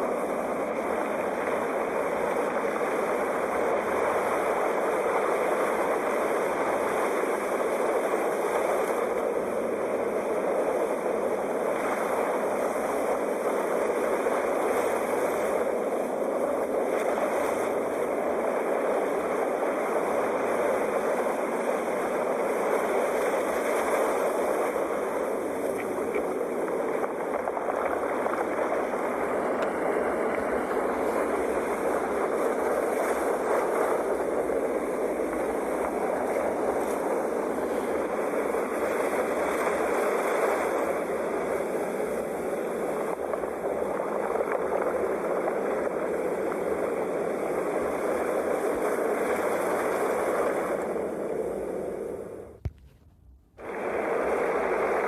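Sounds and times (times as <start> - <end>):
sea waves washing: 0.0 - 55.0.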